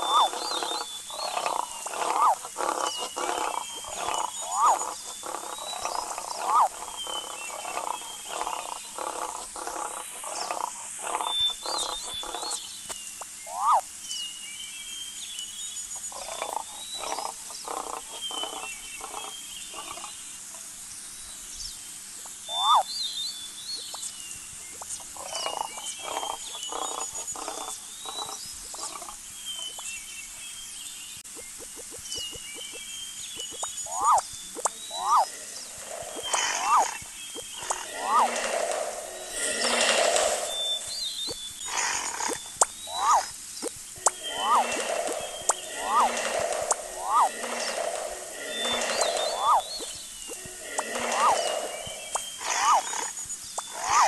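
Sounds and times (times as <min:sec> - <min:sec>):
rapid pulsed croaking calls: 0:00.0 - 0:14.0, 0:15.8 - 0:20.6, 0:22.1 - 0:30.5, 0:31.2 - 0:54.0
small bird chirps: 0:00.0 - 0:20.2, 0:21.2 - 0:54.0.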